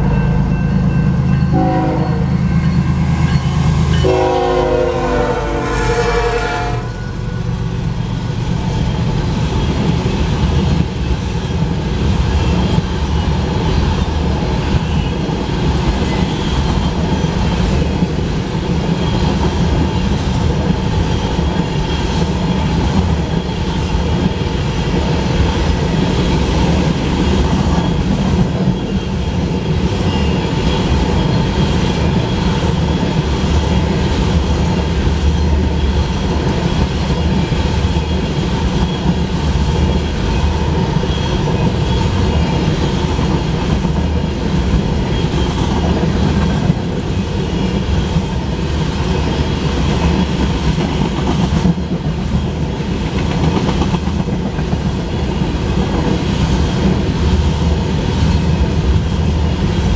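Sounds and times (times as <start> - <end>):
train wheels rumbling on rails: 0.0 - 59.9
clickety-clack over rail joints: 7.6 - 59.9.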